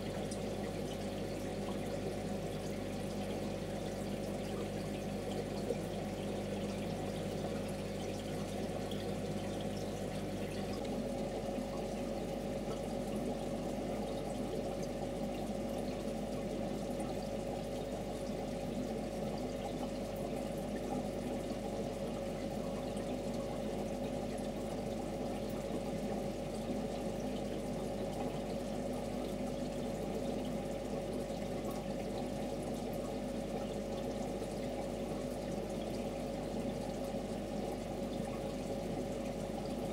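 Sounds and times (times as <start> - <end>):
aquarium water trickling and bubbling: 0.0 - 39.9
low steady hum: 0.0 - 39.9.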